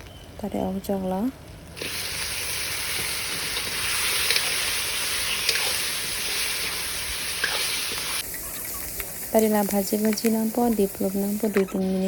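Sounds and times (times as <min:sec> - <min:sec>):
onions frying in hot oil: 0:01.8 - 0:12.0.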